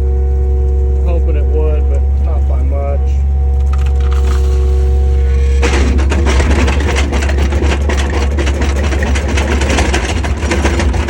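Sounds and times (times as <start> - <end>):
dense crackling rattle: 0.0 - 11.0
heavy engine droning: 0.0 - 11.0.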